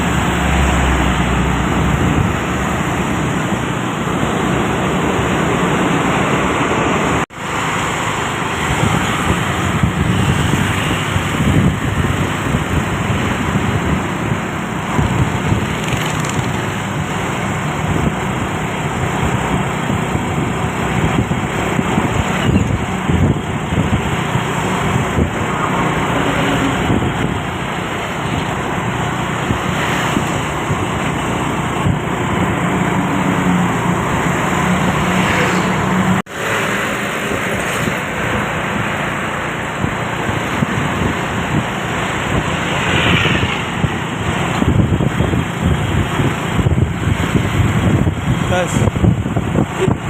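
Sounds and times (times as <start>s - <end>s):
road traffic noise: 0.0s - 50.0s.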